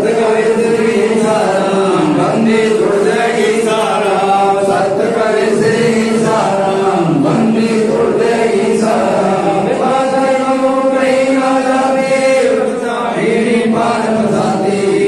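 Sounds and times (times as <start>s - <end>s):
group chanting a hymn: 0.0s - 15.0s.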